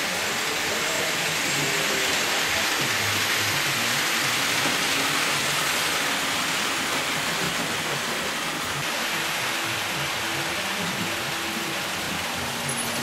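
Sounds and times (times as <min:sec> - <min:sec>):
small wheels rattling on rails: 0:00.0 - 0:13.0.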